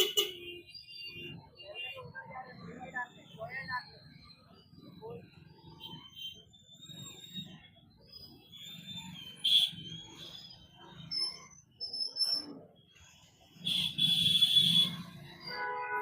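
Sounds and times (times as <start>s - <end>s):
traffic engines running: 0.0s - 16.0s.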